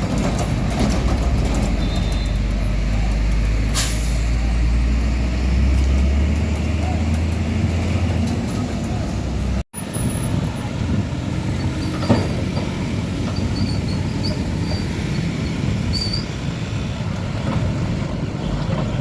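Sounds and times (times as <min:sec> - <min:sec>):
heavy vehicles passing: 0:00.0 - 0:19.0.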